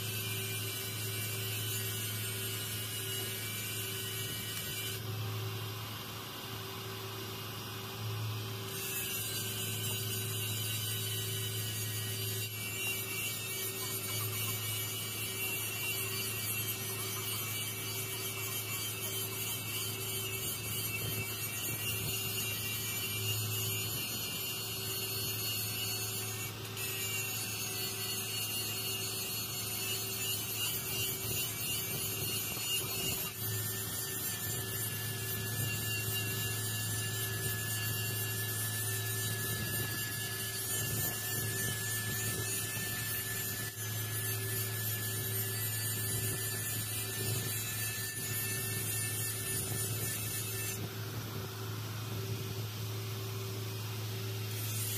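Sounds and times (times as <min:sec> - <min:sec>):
welding arc humming: 0:00.0 - 0:07.8, 0:08.6 - 0:54.9.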